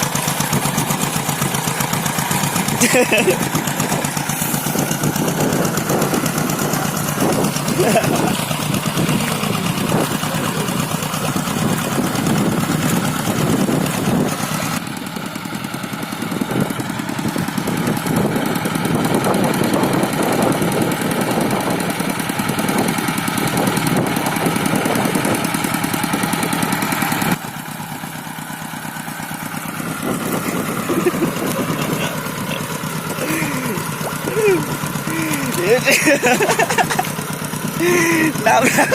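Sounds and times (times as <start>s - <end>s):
hand tractor engine running: 0.0s - 38.9s.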